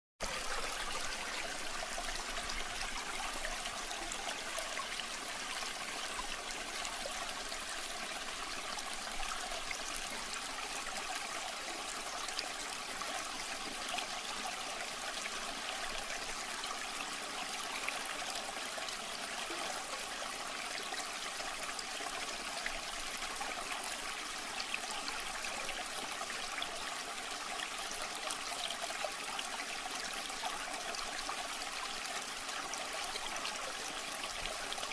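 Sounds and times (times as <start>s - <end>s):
stream babbling over stones: 0.2s - 34.9s.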